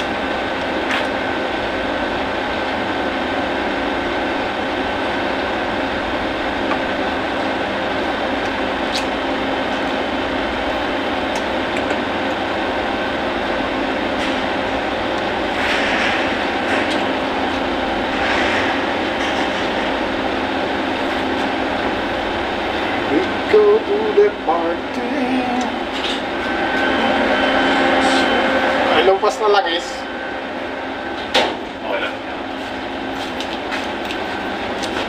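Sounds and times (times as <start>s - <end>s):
machine droning: 0.0s - 35.0s.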